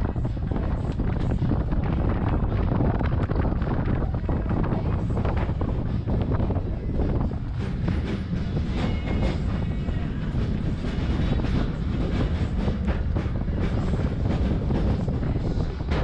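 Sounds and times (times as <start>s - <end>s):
train low rumble: 0.0s - 16.0s
wind on microphone: 0.0s - 16.0s.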